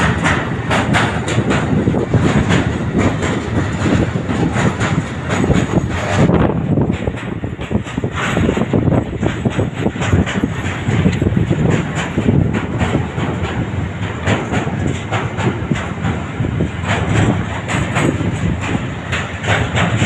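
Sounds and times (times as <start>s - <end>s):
train wheels rumbling on rail: 0.0s - 20.0s
wheel clacks: 0.0s - 20.0s.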